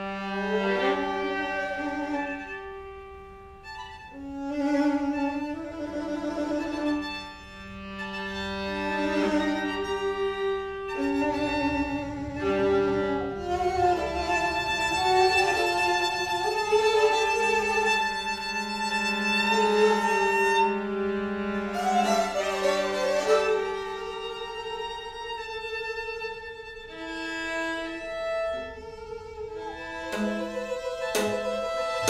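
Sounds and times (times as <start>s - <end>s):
string quartet playing chords: 0.0s - 32.0s.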